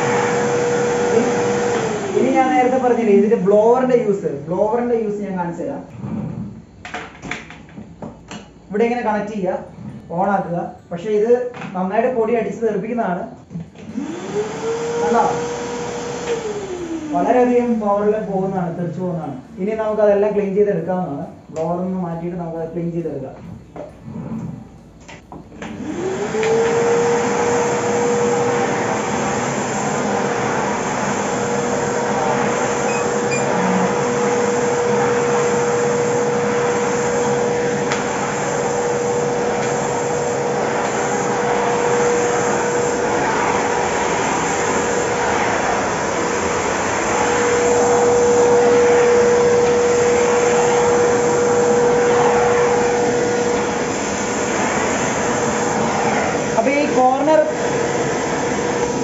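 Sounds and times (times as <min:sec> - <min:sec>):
vacuum cleaner motor running: 0:00.0 - 0:05.2, 0:13.5 - 0:20.6, 0:23.4 - 0:59.0.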